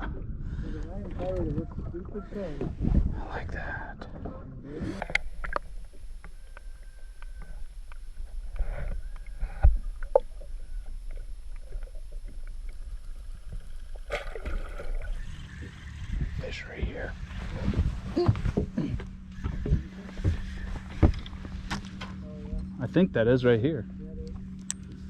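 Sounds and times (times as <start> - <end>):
low rumble of wind and water: 0.0 - 25.0.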